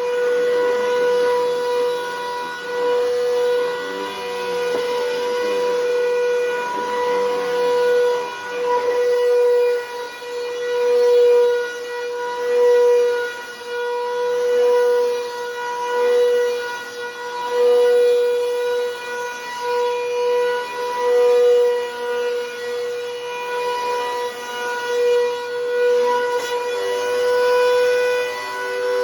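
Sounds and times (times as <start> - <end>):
vacuum cleaner high whine: 0.0 - 29.0.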